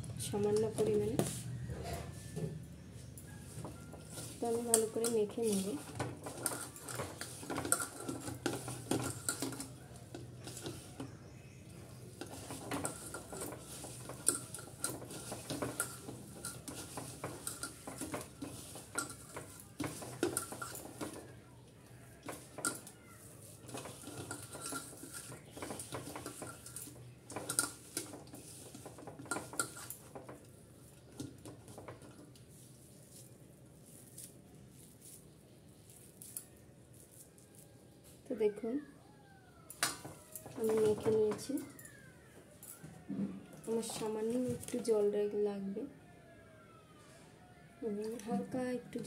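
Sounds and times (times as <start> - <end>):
hands squishing dough mix: 0.0 - 49.0.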